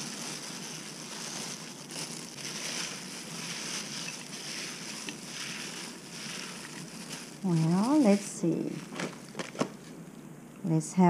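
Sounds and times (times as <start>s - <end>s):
gloved hands mixing food: 0.0s - 10.0s.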